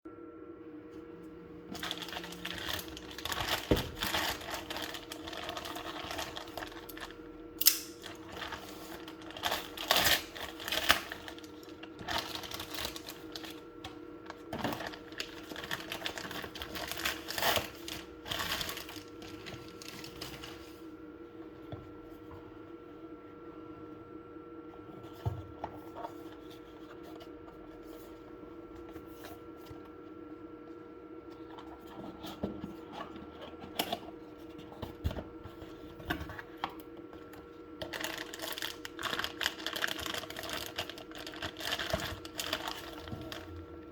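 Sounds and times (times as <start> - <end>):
faint hum: 0.1 - 43.9
packaging rustling and scraping: 1.6 - 20.9, 24.9 - 30.1, 31.3 - 43.9.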